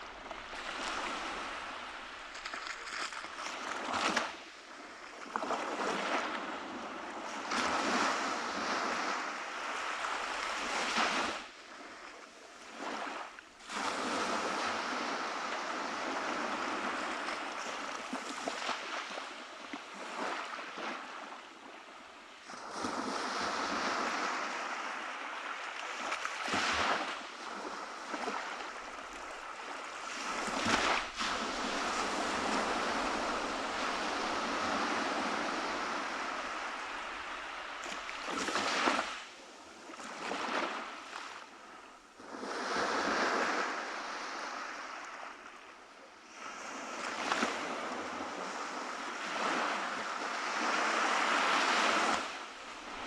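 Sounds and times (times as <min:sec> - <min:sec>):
surf waves breaking on beach: 0:00.0 - 0:53.0.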